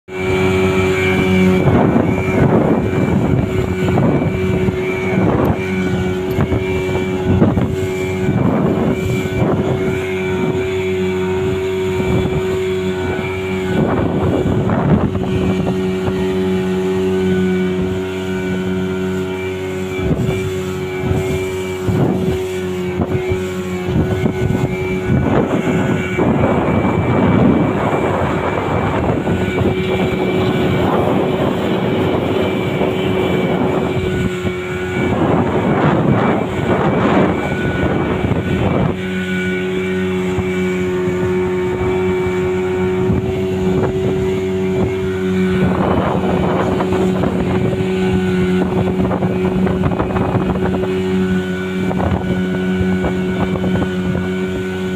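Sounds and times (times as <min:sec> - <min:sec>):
boat engine running: 0:00.0 - 0:54.9
rushing water and wind: 0:00.1 - 0:54.9.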